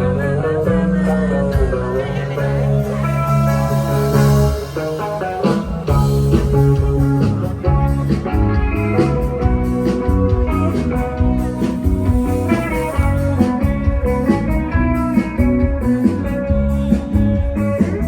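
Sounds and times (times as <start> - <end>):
guitar playing: 0.0 - 18.0
live band instrumental: 0.0 - 18.0.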